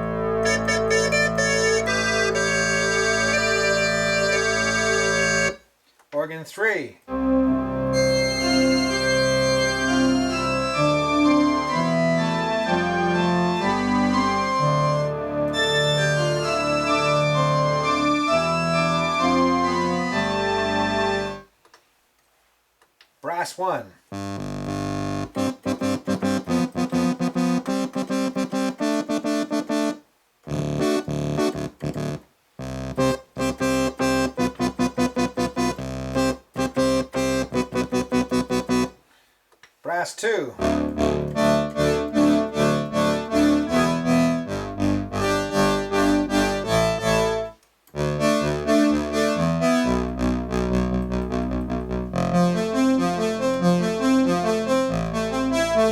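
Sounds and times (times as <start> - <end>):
synthesizer organ chords: 0.0 - 5.6, 7.1 - 21.5, 24.1 - 39.0, 40.6 - 55.9.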